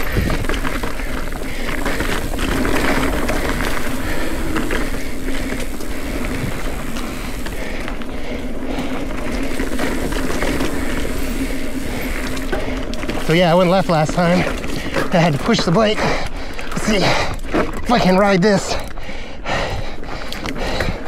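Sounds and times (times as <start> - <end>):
bike frame rattling: 0.0 - 19.0
bike tyres on dirt trail: 0.0 - 21.0.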